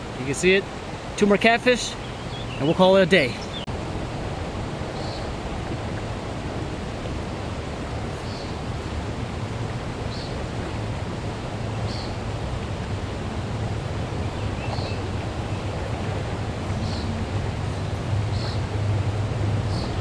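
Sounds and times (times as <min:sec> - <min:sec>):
steady rushing outdoor noise: 0:00.0 - 0:20.0.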